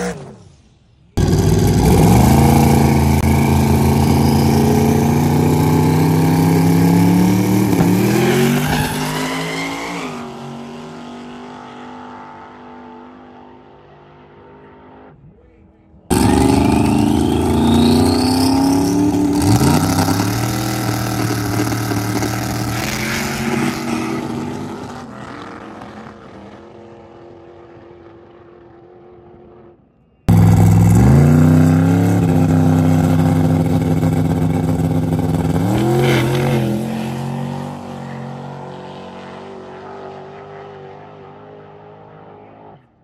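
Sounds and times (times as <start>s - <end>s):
drag car engines accelerating: 1.2s - 15.2s, 16.0s - 43.0s.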